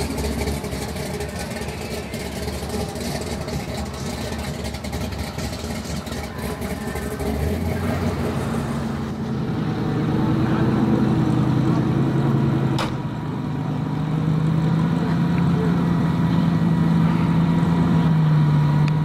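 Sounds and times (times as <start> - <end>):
car engine rumbling deeply: 0.0 - 19.0.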